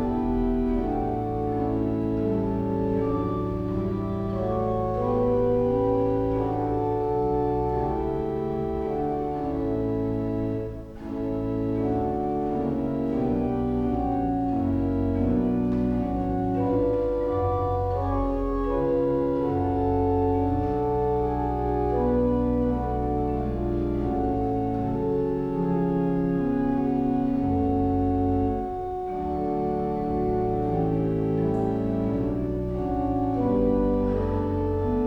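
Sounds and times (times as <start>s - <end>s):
church organ chords: 0.0s - 35.0s.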